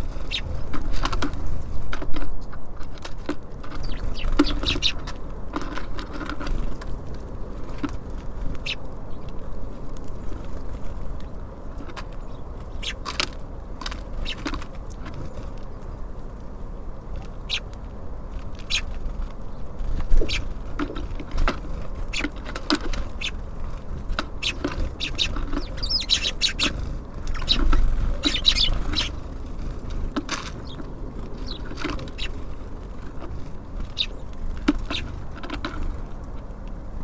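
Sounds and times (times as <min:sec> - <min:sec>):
small birds chirping: 0:00.0 - 0:01.2, 0:03.6 - 0:05.4, 0:06.4 - 0:13.2, 0:13.9 - 0:36.1
steady low rumble: 0:03.7 - 0:05.6, 0:06.8 - 0:37.0.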